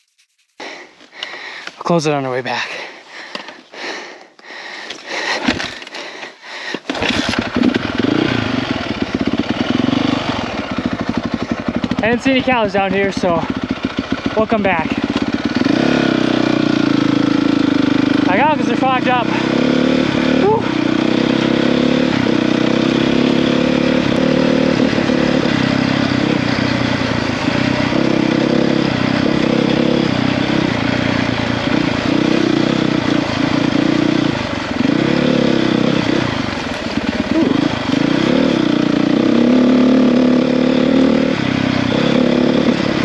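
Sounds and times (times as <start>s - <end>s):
dirt bike engine revving: 7.0s - 43.0s.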